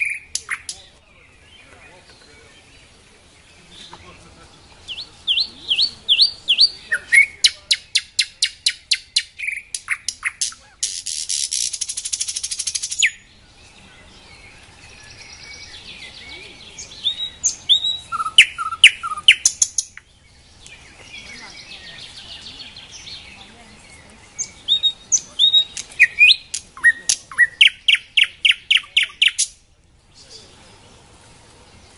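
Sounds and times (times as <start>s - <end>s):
nightingale singing: 0.0s - 31.9s.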